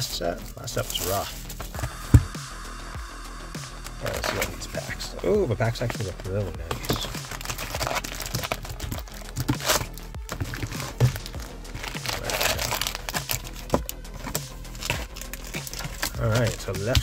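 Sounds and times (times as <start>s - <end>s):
foil wrappers crinkling: 0.0s - 1.9s, 4.0s - 17.0s.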